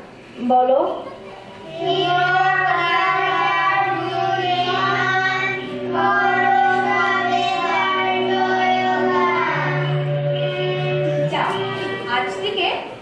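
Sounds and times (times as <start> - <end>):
children singing together: 1.6 - 12.4
instrumental drone: 1.6 - 12.6.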